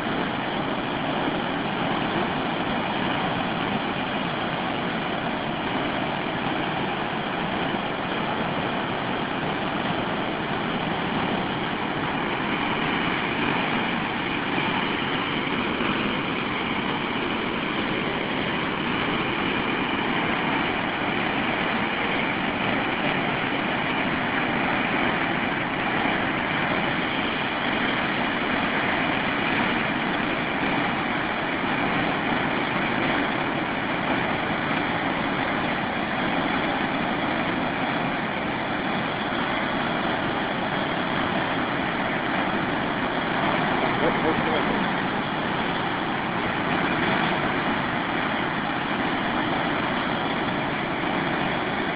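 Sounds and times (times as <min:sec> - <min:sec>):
river rushing in flood: 0:00.0 - 0:51.9.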